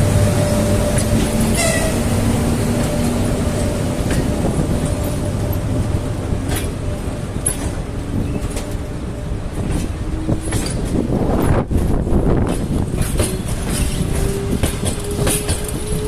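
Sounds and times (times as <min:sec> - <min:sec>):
train rumbling: 0:00.0 - 0:16.0
wheels clicking on rails: 0:00.0 - 0:16.0.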